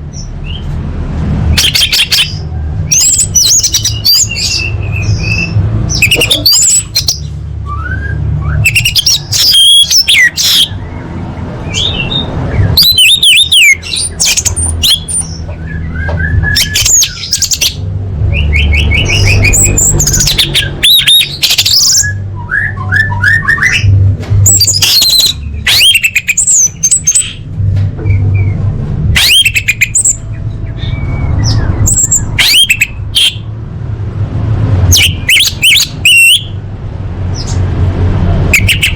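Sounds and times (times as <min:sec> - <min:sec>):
thrush singing whistles and trills: 0:01.5 - 0:33.5, 0:34.8 - 0:36.6, 0:38.5 - 0:38.9.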